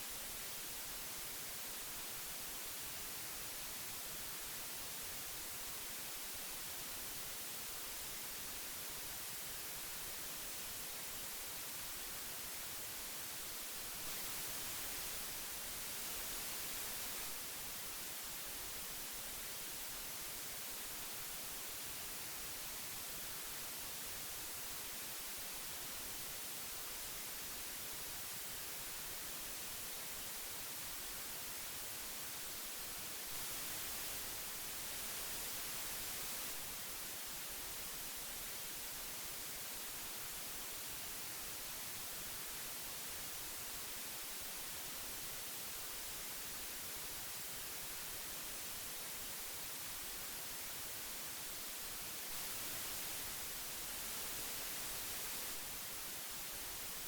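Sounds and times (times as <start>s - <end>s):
magnetic tape hiss: 0.0s - 57.0s.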